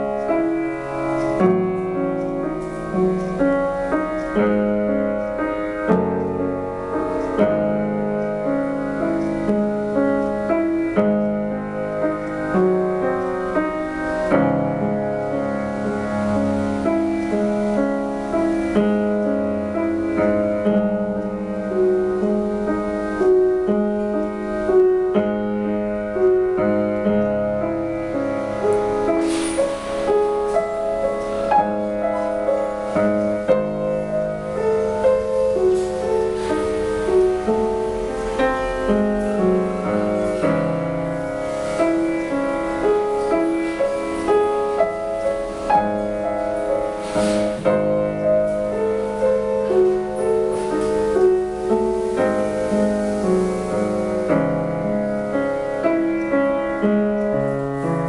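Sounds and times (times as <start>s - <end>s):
solo piano: 0.0s - 58.0s.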